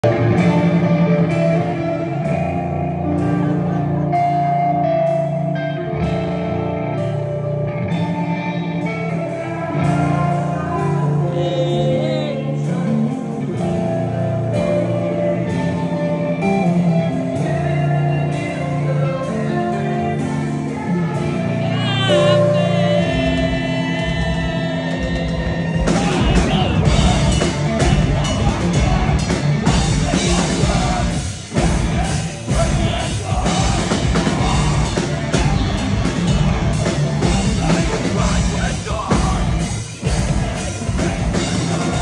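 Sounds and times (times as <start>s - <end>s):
drum kit: 0.0s - 42.0s
electric guitar: 0.0s - 42.0s.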